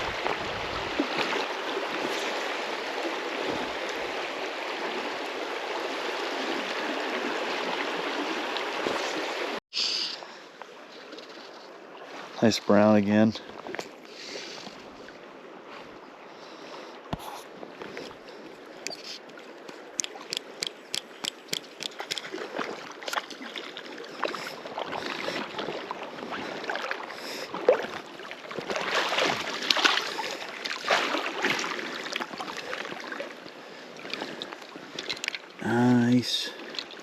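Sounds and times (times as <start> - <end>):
river water flowing: 0.0 - 37.0.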